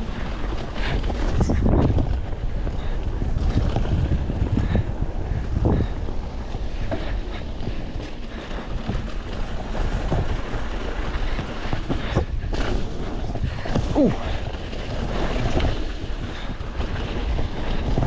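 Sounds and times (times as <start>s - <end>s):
bike rattling over bumps: 0.0s - 18.0s
wind buffeting microphone: 0.0s - 18.0s.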